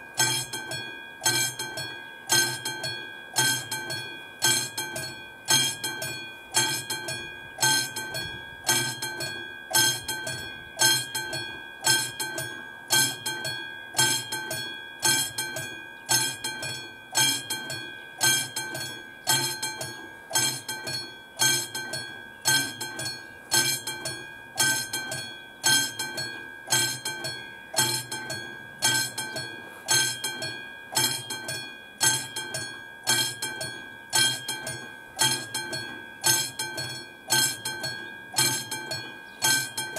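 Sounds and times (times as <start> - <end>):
level crossing warning bell ringing: 0.0 - 39.9.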